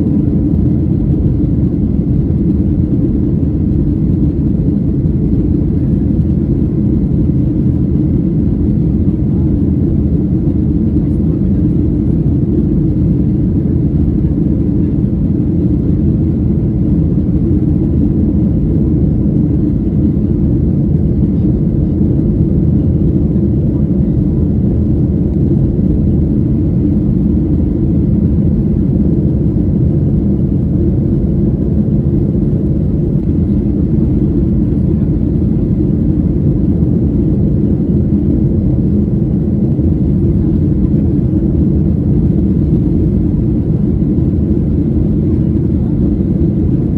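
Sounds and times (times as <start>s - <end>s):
jet engine low rumble: 0.0s - 46.9s.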